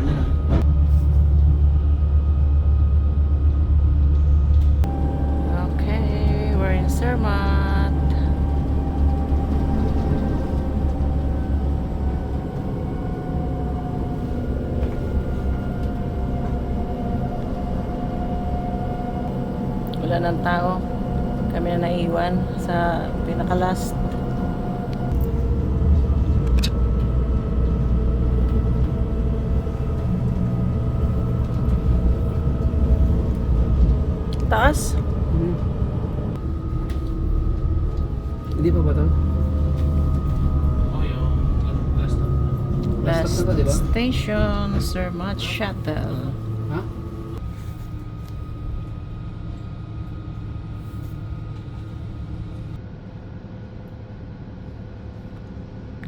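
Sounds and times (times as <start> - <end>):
electric train low rumble: 0.0 - 56.0
low mechanical hum: 0.0 - 56.0
faint whining tones: 4.0 - 52.8.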